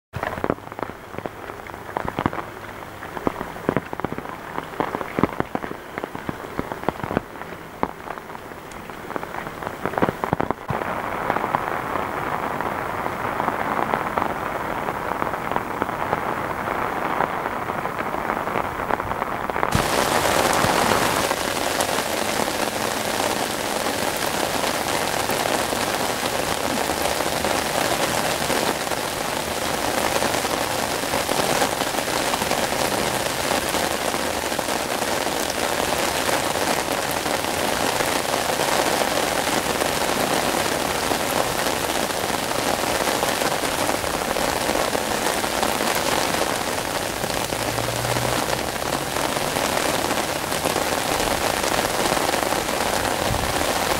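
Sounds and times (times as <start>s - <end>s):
raindrops ticking close by: 0.1s - 53.9s
heavy rain hissing: 0.2s - 53.9s.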